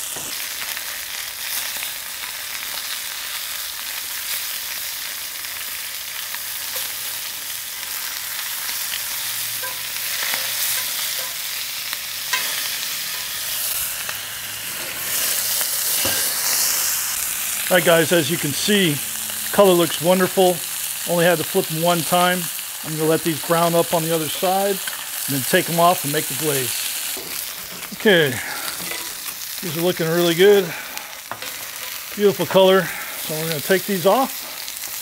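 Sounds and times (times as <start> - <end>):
chicken frying sizzle: 0.0 - 35.0.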